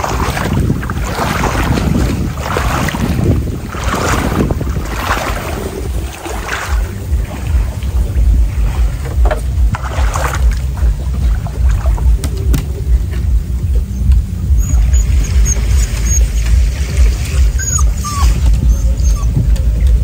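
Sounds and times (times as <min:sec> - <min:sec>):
low wind rumble on microphone: 0:00.0 - 0:20.0
water splashing and sloshing: 0:00.0 - 0:20.0.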